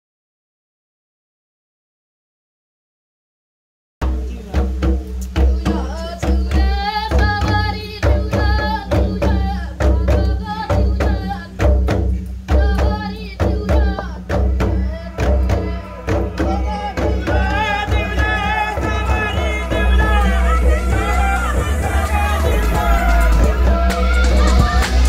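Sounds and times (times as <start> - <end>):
hand drum strikes: 4.0 - 25.0
voices singing: 4.0 - 25.0.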